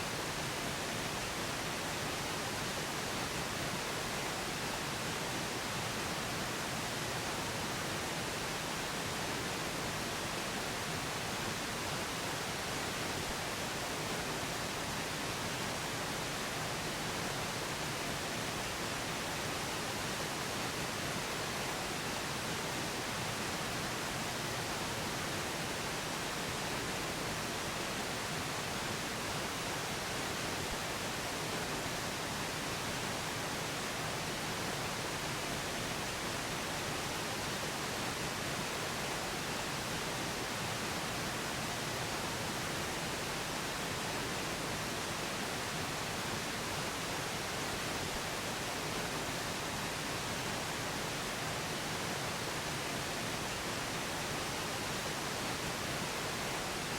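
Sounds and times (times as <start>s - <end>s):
steady pink noise hiss: 0.0s - 56.9s.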